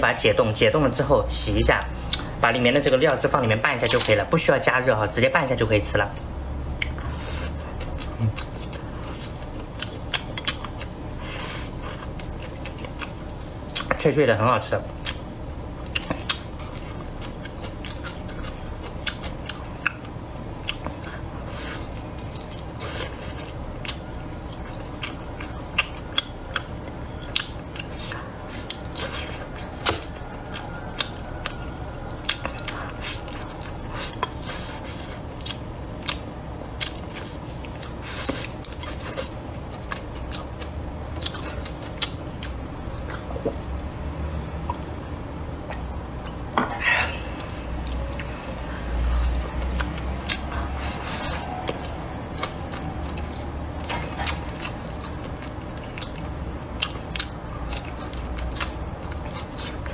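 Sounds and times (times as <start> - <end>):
person chewing crunchy food: 6.6 - 14.0, 14.9 - 59.9.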